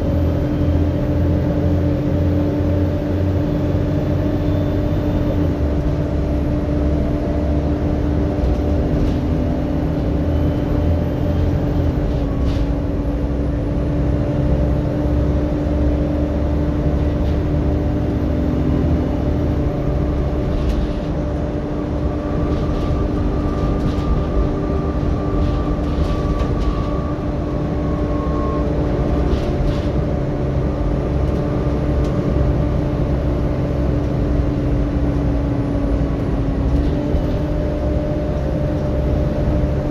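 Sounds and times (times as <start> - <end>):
bus engine and road drone: 0.0 - 39.9
constant whine: 0.0 - 39.9.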